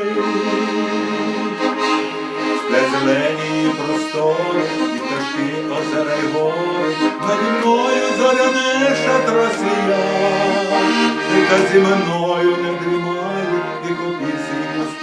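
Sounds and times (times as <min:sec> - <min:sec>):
accordion melody: 0:00.0 - 0:15.0.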